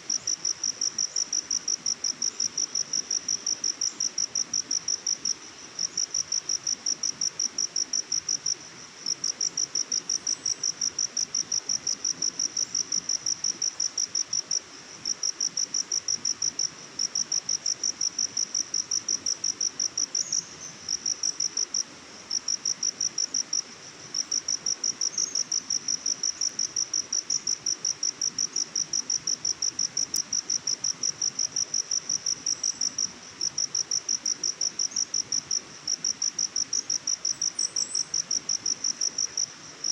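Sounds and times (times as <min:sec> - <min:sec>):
cricket chirping: 0:00.0 - 0:39.9
faint forest ambience hiss: 0:00.0 - 0:39.9.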